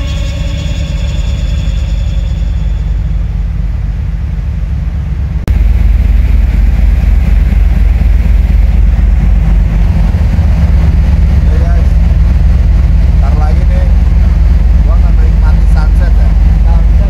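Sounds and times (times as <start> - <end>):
ship engines rumbling: 0.0 - 17.0
wind on microphone: 2.6 - 17.0.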